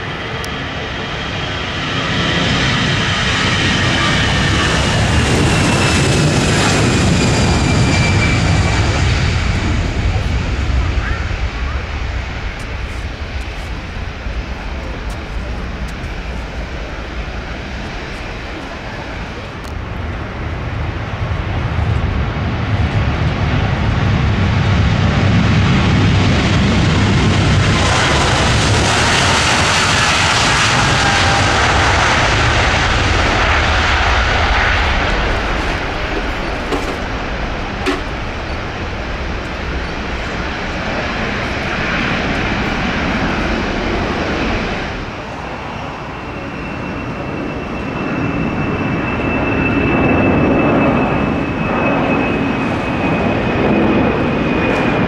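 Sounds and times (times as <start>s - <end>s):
jet airliner passing: 0.0s - 55.0s.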